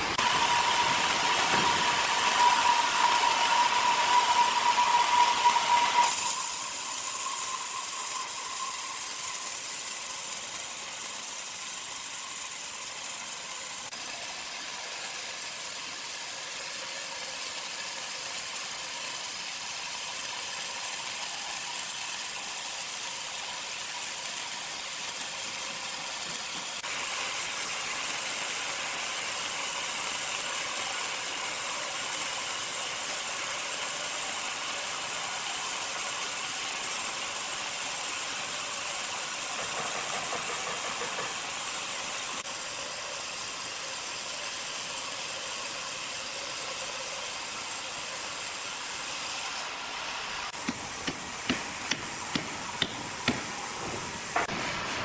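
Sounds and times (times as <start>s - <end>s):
sawmill machinery clatter: 0.0s - 49.8s, 50.4s - 55.0s.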